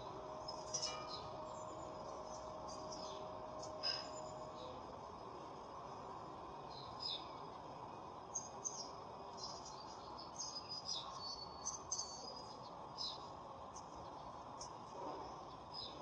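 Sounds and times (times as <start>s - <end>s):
birds chirping: 0.1s - 5.2s, 5.8s - 16.0s.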